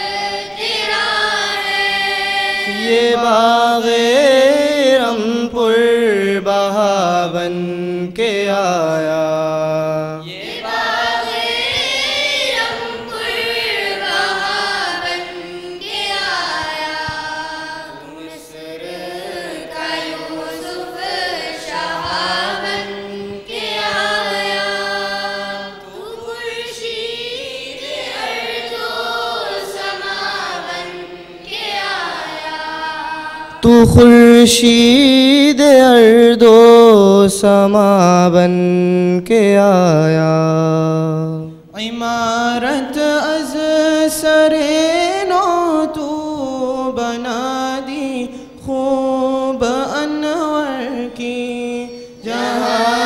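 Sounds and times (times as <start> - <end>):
group singing in unison: 0.0 - 37.6, 41.6 - 53.0.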